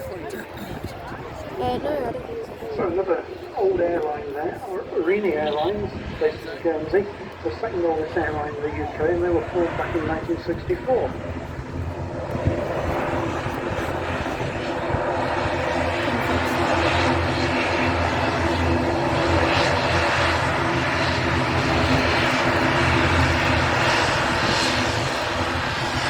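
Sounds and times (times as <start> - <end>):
airliner engines roaring: 0.0 - 26.0.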